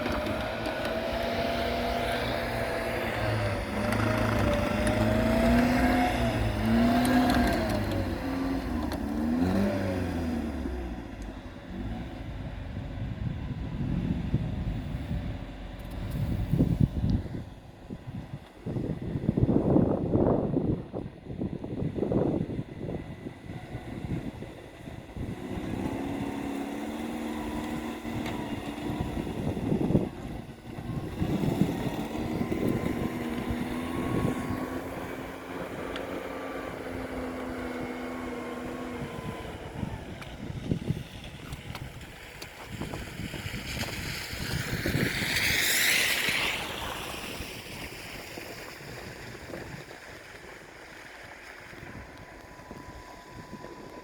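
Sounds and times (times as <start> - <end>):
engine running steadily: 0.0 - 54.0
wind buffeting microphone: 0.0 - 54.0.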